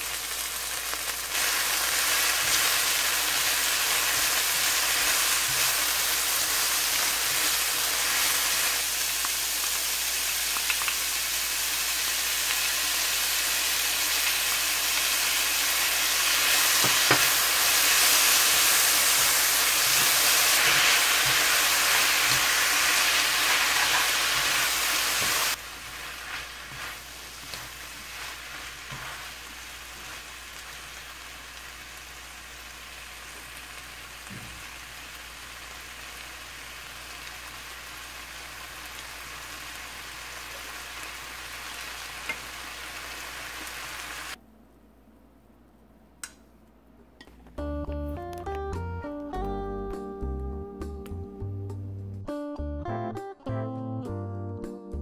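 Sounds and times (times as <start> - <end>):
food sizzling in a wok: 0.0 - 44.4.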